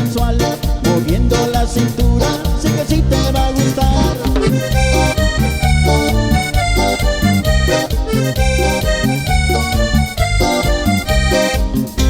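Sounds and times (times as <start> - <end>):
tropical dance music: 0.0 - 12.0.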